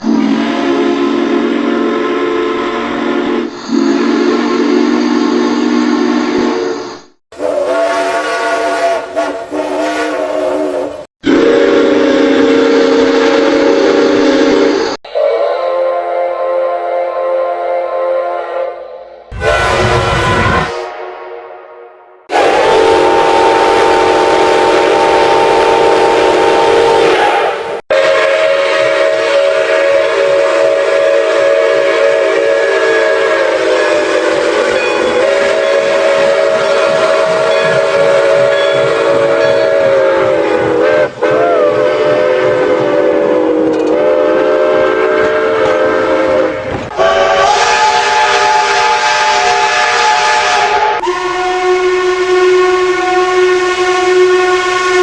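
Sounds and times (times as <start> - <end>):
multi-note train whistle chord: 0.0 - 6.7, 7.4 - 55.0.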